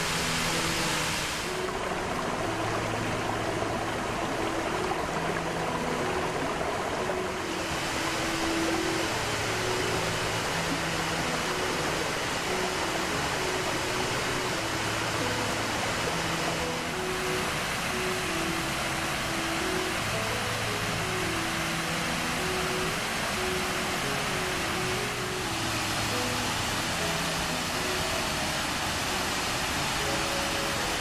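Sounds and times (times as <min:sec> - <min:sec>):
creek water rushing: 0:00.0 - 0:31.0
soft background music: 0:00.0 - 0:31.0.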